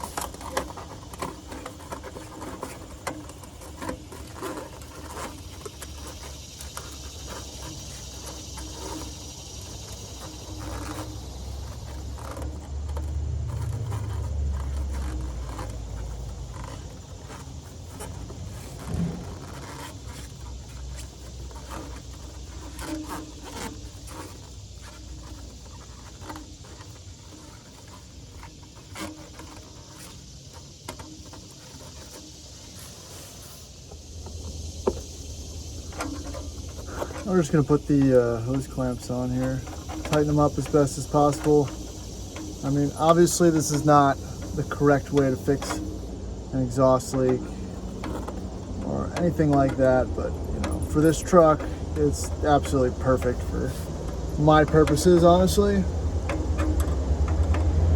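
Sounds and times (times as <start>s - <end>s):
insect chirring: 0.0s - 57.9s
metal clicks and scrapes: 0.0s - 57.9s.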